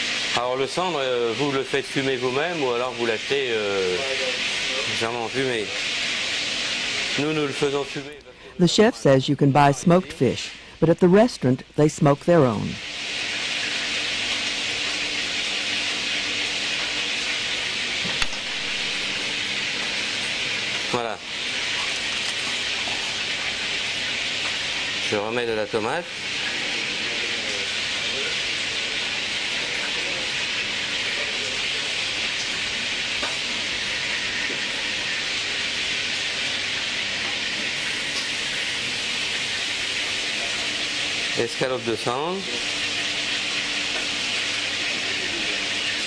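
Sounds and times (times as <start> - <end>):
kitchen background hiss: 0.0 - 46.0.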